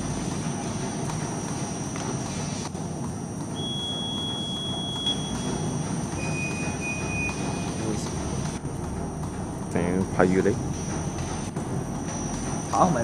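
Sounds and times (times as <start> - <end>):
thin high whine: 0.0 - 8.6, 9.7 - 13.0
machine mechanical hum: 0.0 - 13.0.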